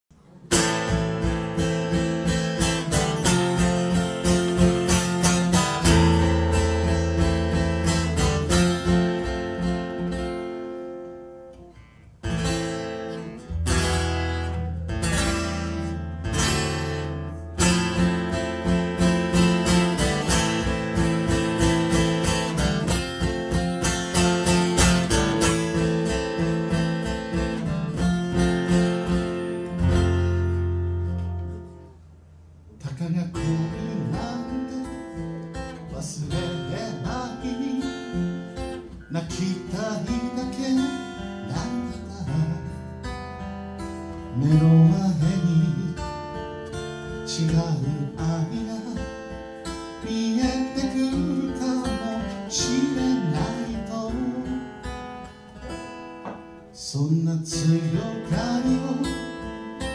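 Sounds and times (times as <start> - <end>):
acoustic guitar strumming chords: 0.2 - 59.9.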